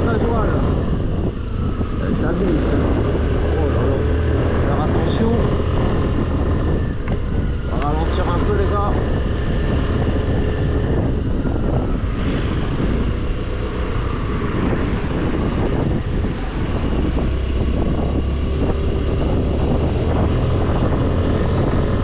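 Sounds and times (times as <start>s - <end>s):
scooter engine and tyres rumble: 0.0s - 22.0s
wind rush on microphone: 0.0s - 22.0s.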